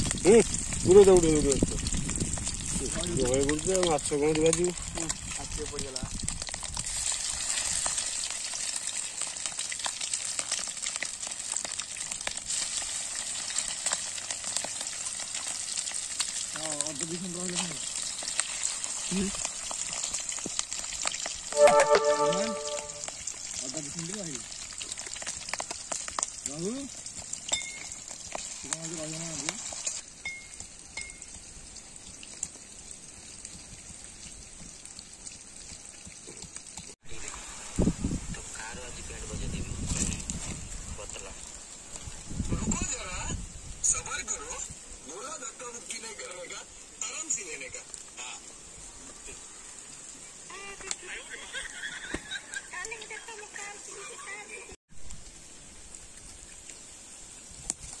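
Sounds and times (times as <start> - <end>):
fish frying in oil: 0.0 - 58.0.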